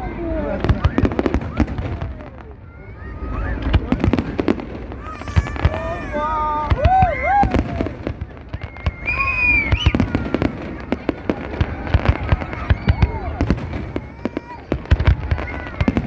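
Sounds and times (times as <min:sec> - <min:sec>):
crowd voices calling out: 0:00.0 - 0:16.0
fireworks bangs and cracks: 0:00.0 - 0:16.0.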